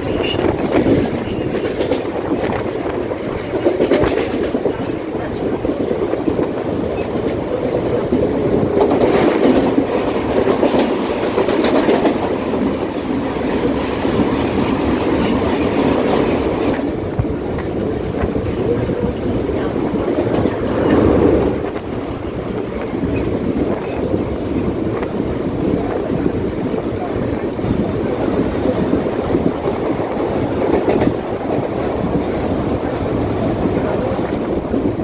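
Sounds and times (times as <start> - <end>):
passing train: 0.0 - 35.0
train wheels on rails: 0.0 - 35.0.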